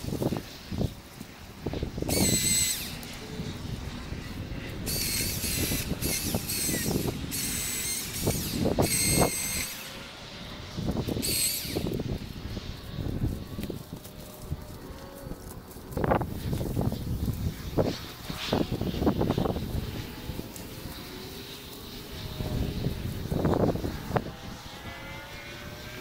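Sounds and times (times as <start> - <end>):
brush rustling: 0.0 - 24.3
battery chainsaw whining: 0.0 - 26.0.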